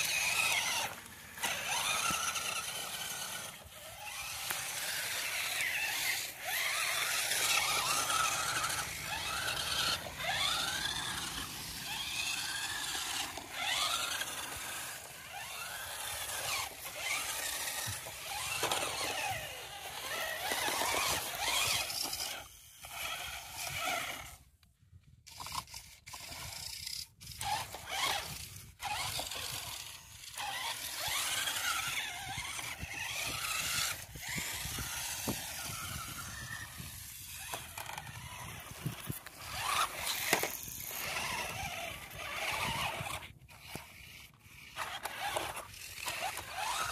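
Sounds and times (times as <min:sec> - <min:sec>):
toy car motors whining: 0:00.0 - 0:46.9.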